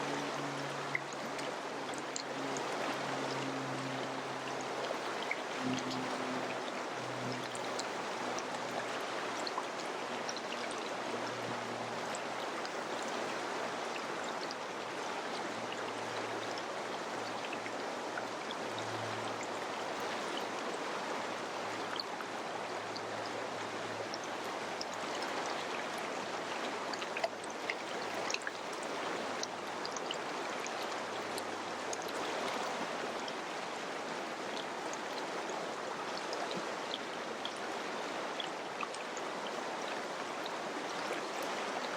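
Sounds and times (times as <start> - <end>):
river water rushing: 0.0 - 41.9
small splashes and drips: 0.0 - 41.9.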